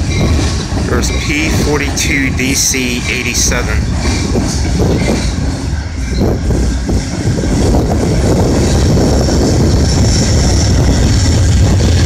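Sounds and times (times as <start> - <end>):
train rumbling across bridge: 0.0 - 12.0
wheels rattling on rails: 0.0 - 12.0.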